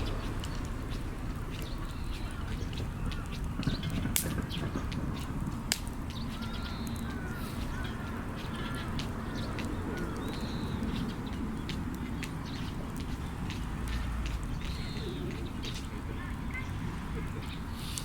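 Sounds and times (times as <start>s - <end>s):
birds calling: 0.0s - 18.0s
campfire crackling and popping: 0.0s - 18.0s.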